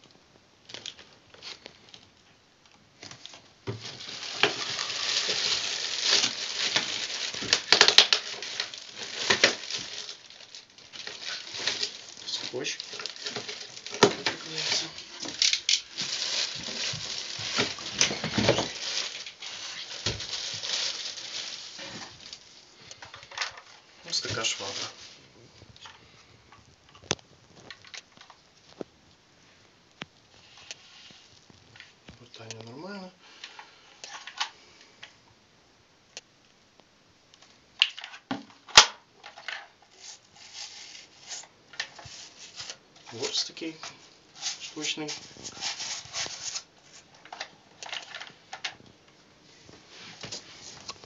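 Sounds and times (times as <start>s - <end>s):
plastic bags rustling: 3.0s - 35.2s, 37.4s - 51.0s.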